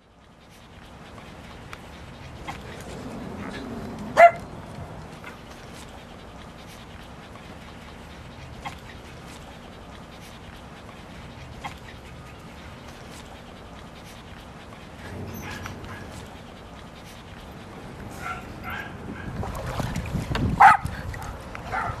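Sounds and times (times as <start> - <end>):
small dogs yipping and barking: 1.3 - 19.4, 20.6 - 22.0.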